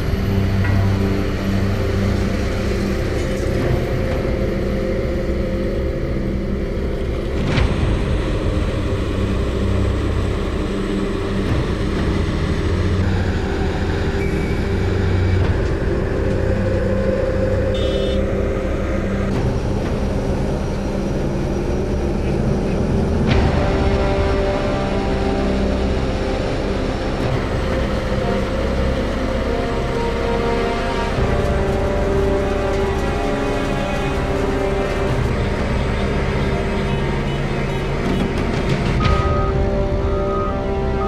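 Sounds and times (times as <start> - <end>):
heavy diesel engines rumbling: 0.0 - 41.0.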